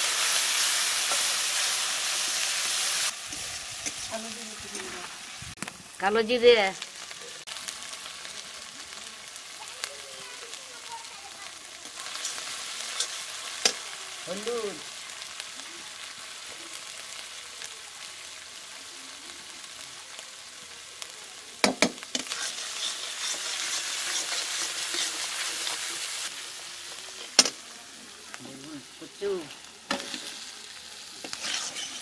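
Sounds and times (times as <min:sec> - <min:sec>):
masala sizzling in oil: 0:00.0 - 0:32.0.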